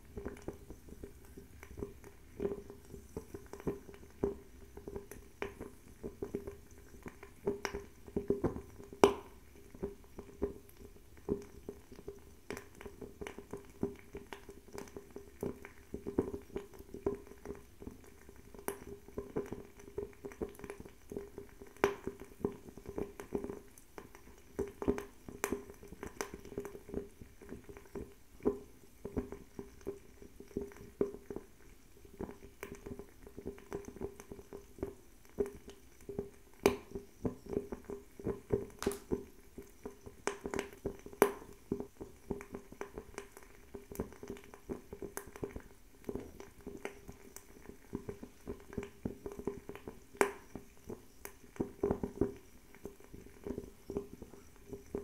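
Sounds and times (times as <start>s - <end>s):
fire crackling pops and snaps: 0.0s - 31.5s, 32.2s - 55.0s
low hum of burning flame: 0.0s - 55.0s.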